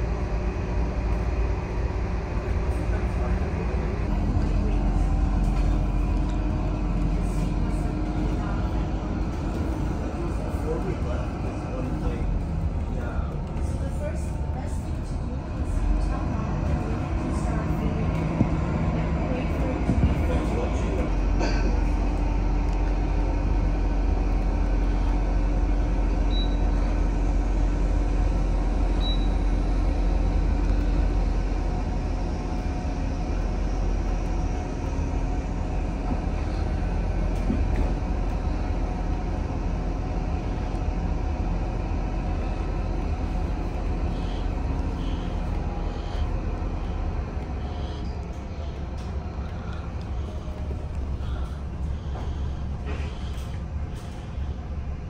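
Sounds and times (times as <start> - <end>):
low engine and road rumble: 0.0 - 55.0.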